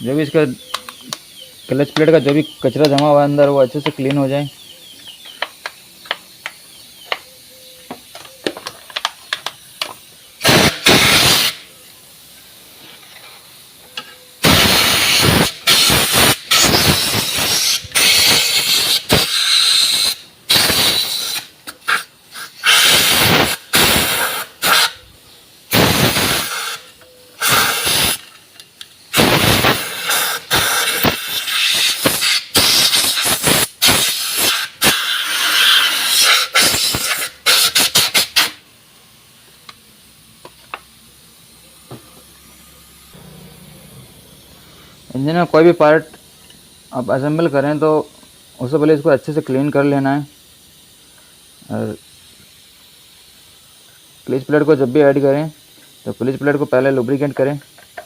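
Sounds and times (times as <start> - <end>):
spray nozzle hissing: 5.0 - 58.0.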